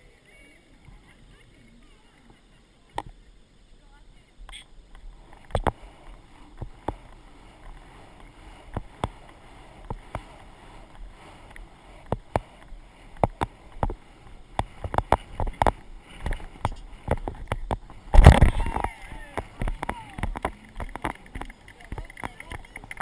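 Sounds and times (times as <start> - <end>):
horse hooves and tack clicking: 4.5 - 23.0.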